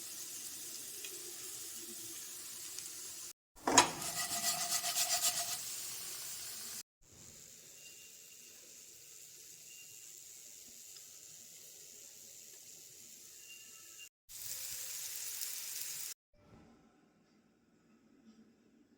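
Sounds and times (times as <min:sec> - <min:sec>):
food sizzling in hot oil: 0:00.0 - 0:16.2.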